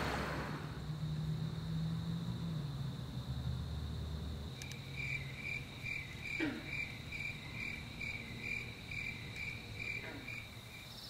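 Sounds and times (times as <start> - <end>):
low hum: 0.0 - 10.3
cricket chirping: 0.0 - 11.0
high-pitched insect trill: 0.6 - 11.0.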